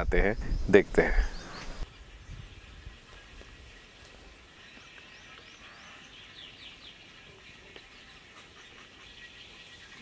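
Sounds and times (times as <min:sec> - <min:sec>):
birds chirping faintly: 0:00.0 - 0:10.0
steady outdoor hiss: 0:00.0 - 0:10.0.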